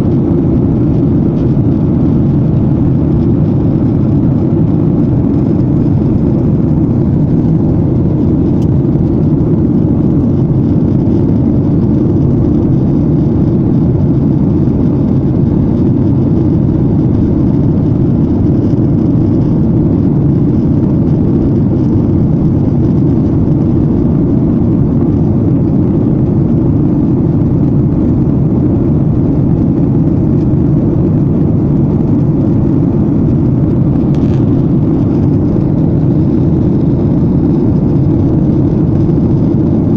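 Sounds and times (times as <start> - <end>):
airliner cabin engine noise: 0.0 - 39.9.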